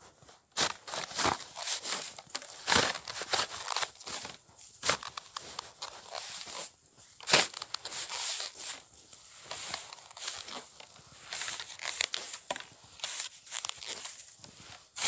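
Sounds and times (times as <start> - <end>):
footsteps crunching through snow: 0.0 - 15.0.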